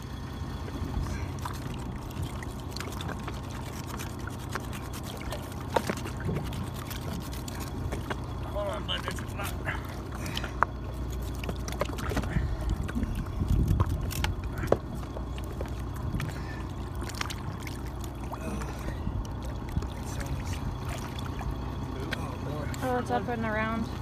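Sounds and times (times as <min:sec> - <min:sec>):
boat engine running: 0:00.0 - 0:24.0
water sloshing against hull: 0:00.0 - 0:24.0.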